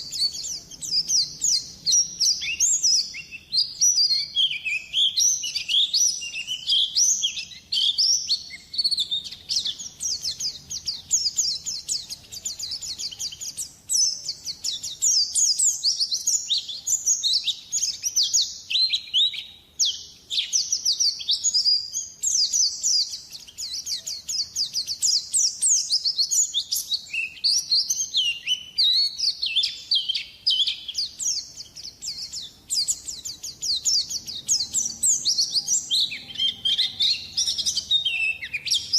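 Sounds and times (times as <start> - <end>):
bird twittering chirps and trills: 0.0 - 38.9.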